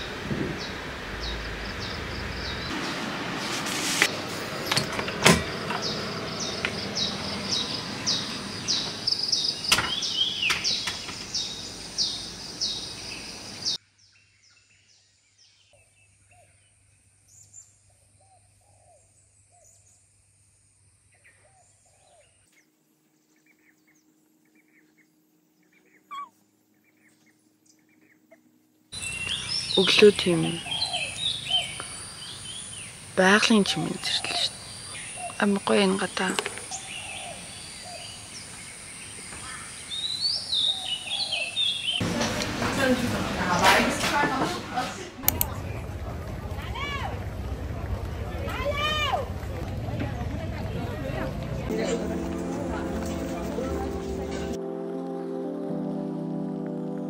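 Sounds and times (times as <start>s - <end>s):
birds chirping: 0.0s - 2.9s, 4.1s - 16.7s, 21.1s - 54.6s
steady outdoor hiss: 0.0s - 56.9s.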